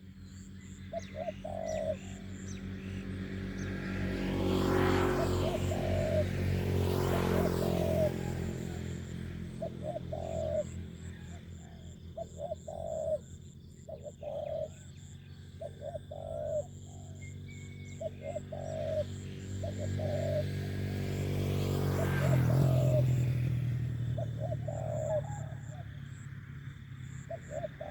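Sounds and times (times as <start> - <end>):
low engine-like hum: 0.0 - 27.9
doves cooing: 0.6 - 27.9.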